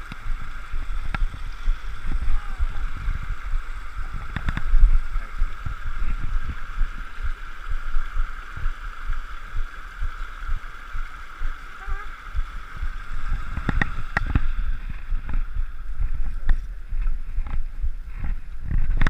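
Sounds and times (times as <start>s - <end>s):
low thumps and rumble: 0.0s - 19.0s
stream splashing over stones: 0.0s - 19.0s.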